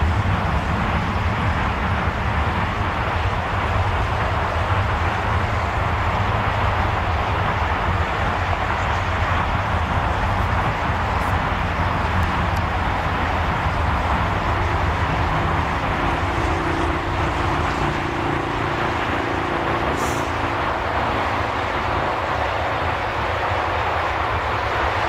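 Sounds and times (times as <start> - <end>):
jet engines at taxi power: 0.0 - 25.0.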